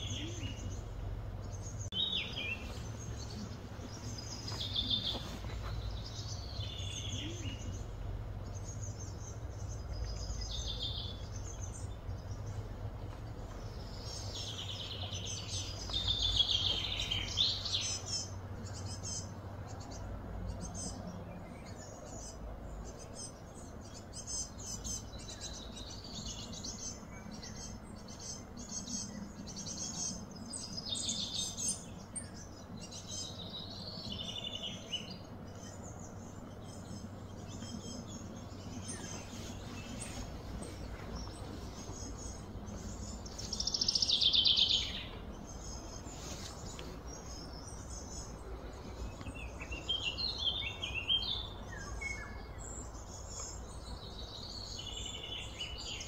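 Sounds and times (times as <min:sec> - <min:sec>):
birds chirping and trilling: 0:00.0 - 0:56.0
low background hum: 0:00.0 - 0:56.0.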